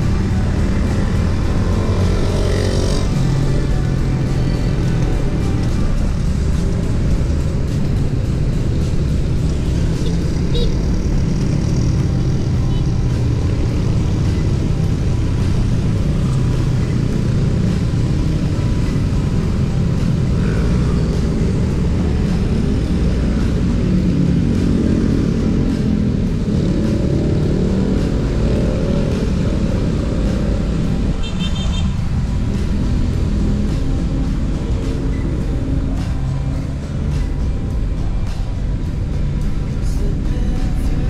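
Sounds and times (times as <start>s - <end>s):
motorcycle engines: 0.0s - 41.0s
road traffic: 0.0s - 41.0s.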